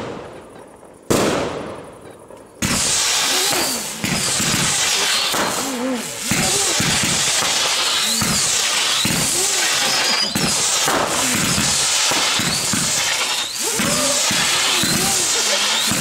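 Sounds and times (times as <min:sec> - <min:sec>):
fireworks whistling: 0:00.0 - 0:16.0
loud fireworks hiss: 0:00.0 - 0:16.0.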